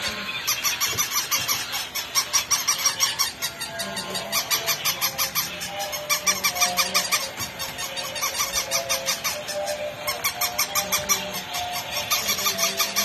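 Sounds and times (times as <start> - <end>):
toy puppies yapping: 0.0 - 13.0.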